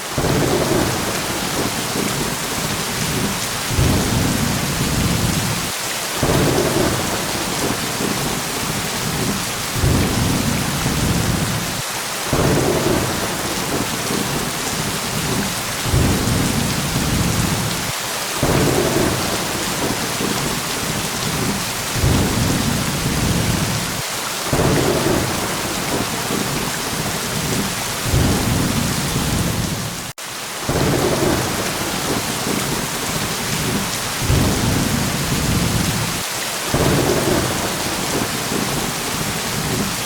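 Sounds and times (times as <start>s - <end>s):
heavy rain hissing: 0.0s - 40.0s
thunder rolling: 0.2s - 30.1s, 30.7s - 39.9s.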